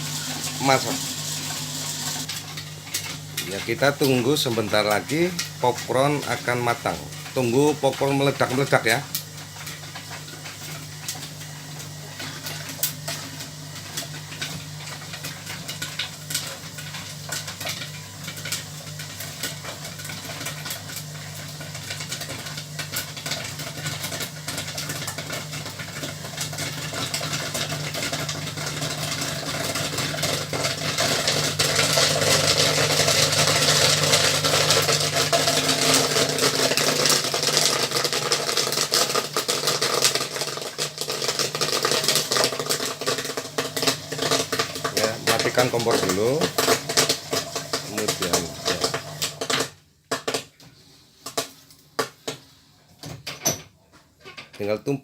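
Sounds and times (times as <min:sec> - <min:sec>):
stirrer motor humming: 0:00.0 - 0:50.3
popcorn kernels popping: 0:00.0 - 0:52.6.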